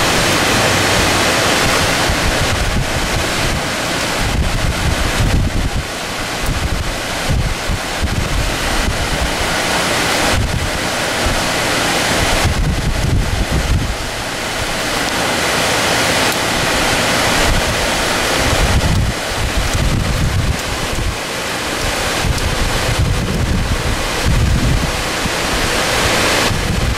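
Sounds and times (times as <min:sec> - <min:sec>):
floodwater rushing roar: 0:00.0 - 0:26.9
wind buffeting microphone: 0:00.0 - 0:26.9.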